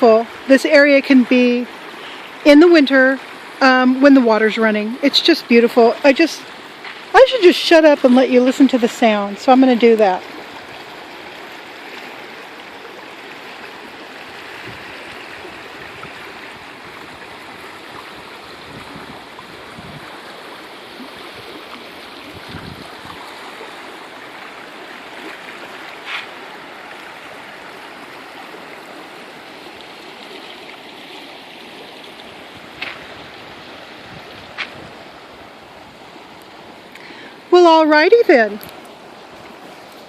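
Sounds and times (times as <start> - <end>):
creek water rushing: 0.0 - 40.0.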